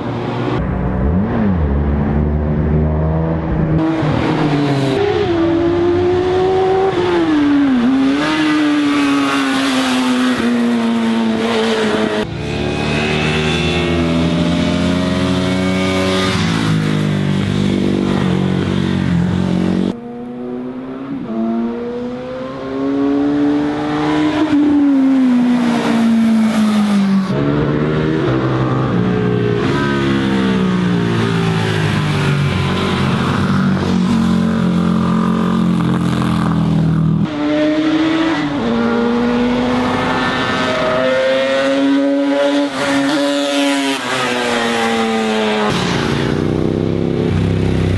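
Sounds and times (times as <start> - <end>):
motorcycle engines revving and accelerating: 0.0 - 47.9.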